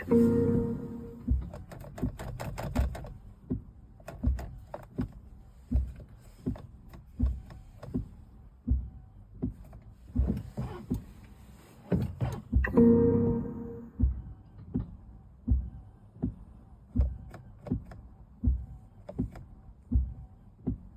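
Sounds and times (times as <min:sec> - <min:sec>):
windscreen wipers thumping: 0:01.2 - 0:11.2, 0:14.0 - 0:20.9.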